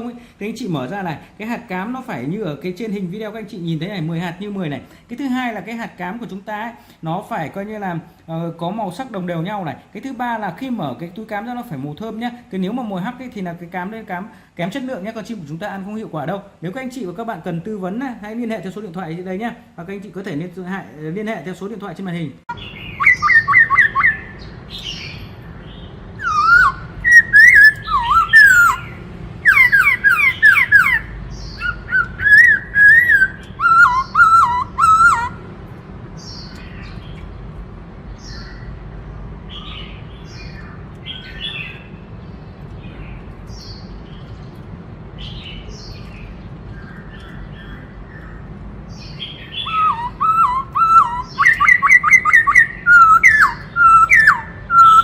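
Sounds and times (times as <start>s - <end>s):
bird singing warbling phrases: 0.0s - 37.5s, 38.1s - 38.8s, 39.5s - 55.0s.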